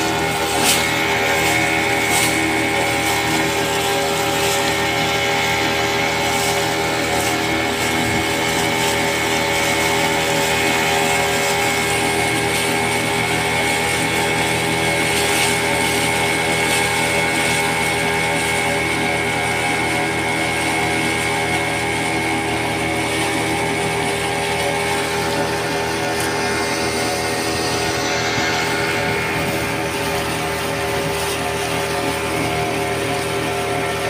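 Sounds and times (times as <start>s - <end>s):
boat motor running: 0.0s - 34.0s
water wash along hull: 0.0s - 34.0s.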